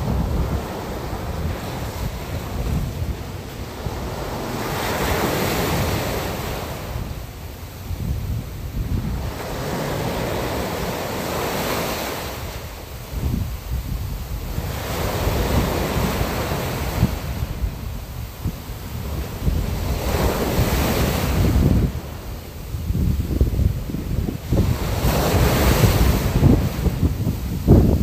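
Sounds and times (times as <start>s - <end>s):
waves washing on sandy beach: 0.0s - 28.0s
wind buffeting microphone: 0.0s - 28.0s.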